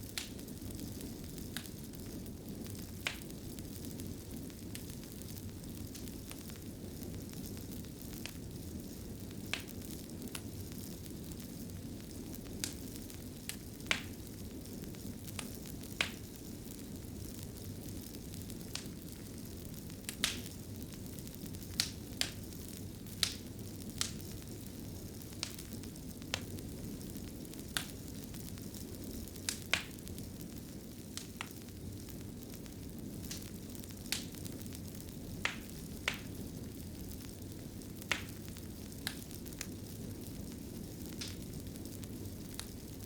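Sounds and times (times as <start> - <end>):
low rumble of burning: 0.0 - 43.0
wood fire popping and snapping: 0.0 - 43.0.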